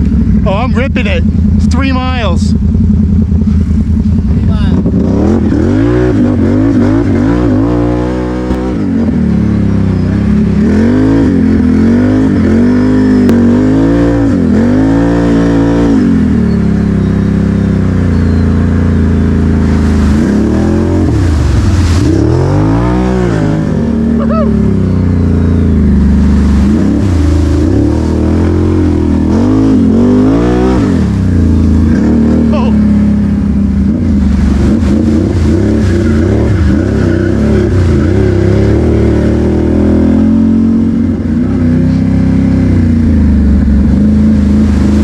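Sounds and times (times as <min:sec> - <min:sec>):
quad bike engine revving: 0:00.0 - 0:45.0.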